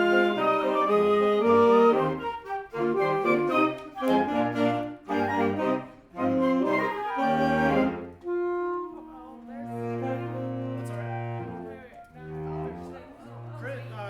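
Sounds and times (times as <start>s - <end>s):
concert wind band playing chords: 0.0s - 14.0s.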